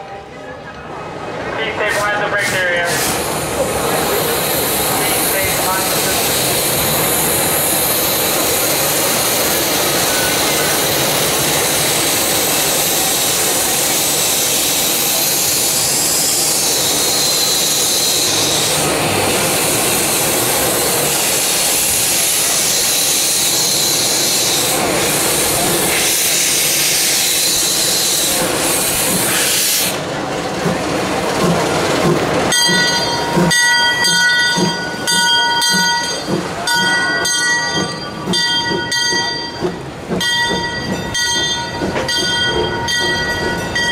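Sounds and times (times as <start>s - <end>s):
steam locomotive hissing steam: 1.6s - 43.9s.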